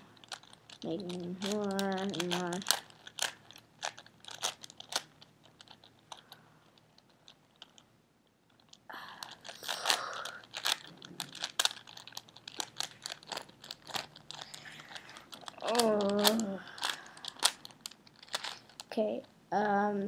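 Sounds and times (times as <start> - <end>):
puzzle cube layers clicking: 0.0 - 7.9, 8.5 - 18.9.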